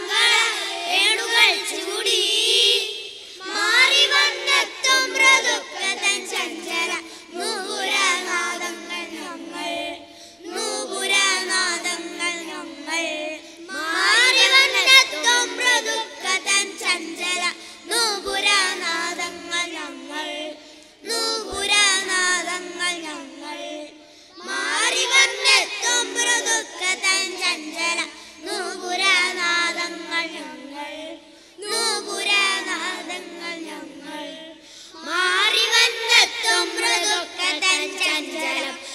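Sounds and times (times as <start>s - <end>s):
boys singing together: 0.0s - 38.9s.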